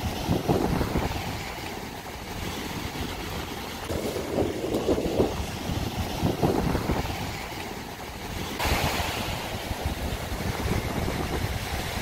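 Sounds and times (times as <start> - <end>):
ocean surf on a beach: 0.0 - 12.0
wind rumbling on microphone: 0.0 - 12.0.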